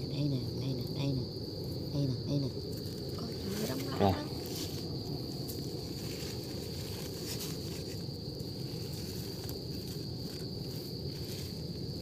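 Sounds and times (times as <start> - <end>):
insect droning: 0.0 - 12.0.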